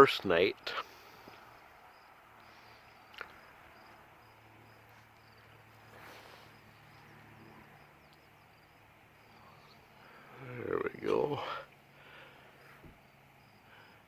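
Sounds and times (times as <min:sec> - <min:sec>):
insects chirping: 0:00.7 - 0:14.0.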